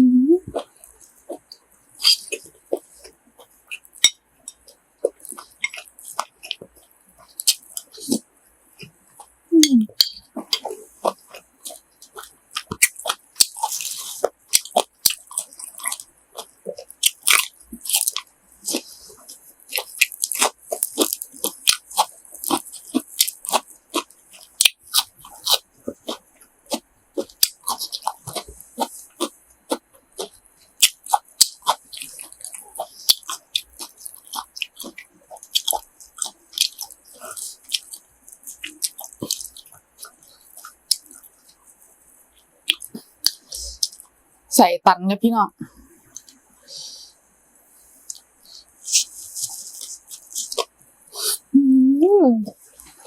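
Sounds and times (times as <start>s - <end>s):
crunching and wet chewing: 0.5s - 9.4s, 10.0s - 44.2s, 45.7s - 51.4s, 52.5s - 53.0s.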